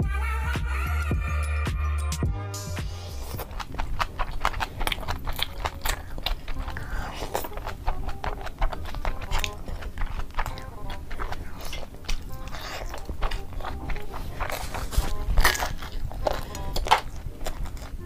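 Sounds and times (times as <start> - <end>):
background music: 0.0 - 18.0
wet chewing and biting: 3.1 - 18.0.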